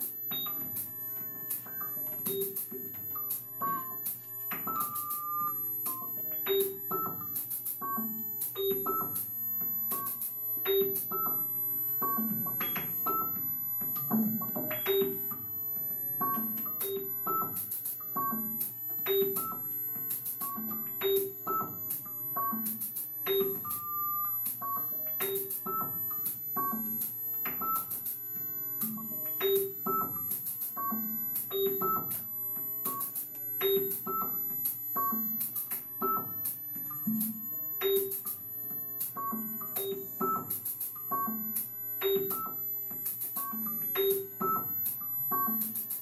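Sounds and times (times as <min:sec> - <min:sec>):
synthesized keyboard notes: 0:00.0 - 0:46.0.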